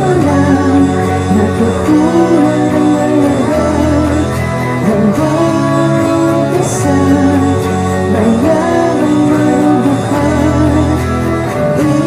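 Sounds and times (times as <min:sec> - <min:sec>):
guitar accompaniment: 0:00.0 - 0:12.0
man singing pop ballad: 0:00.0 - 0:12.0.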